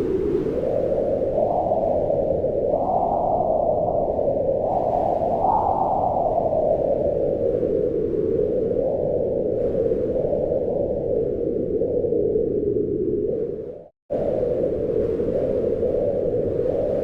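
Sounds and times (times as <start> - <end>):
gusting wind: 0.0 - 17.0.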